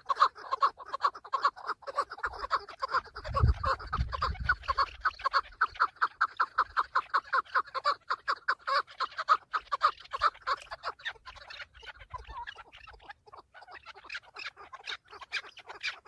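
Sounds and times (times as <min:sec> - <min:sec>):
partridge clucking calls: 0:00.0 - 0:16.0.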